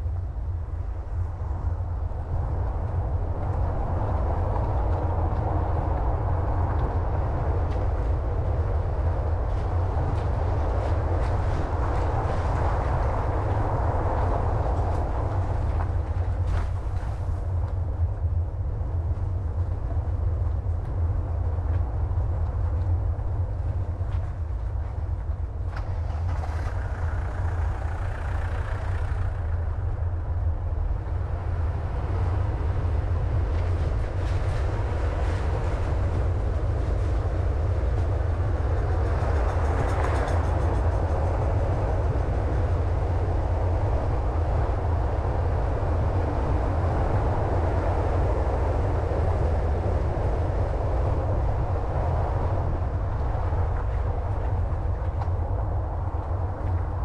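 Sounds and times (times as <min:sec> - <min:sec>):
car engine and tyre rumble: 0:00.0 - 0:57.0
road and wind hiss: 0:00.0 - 0:57.0.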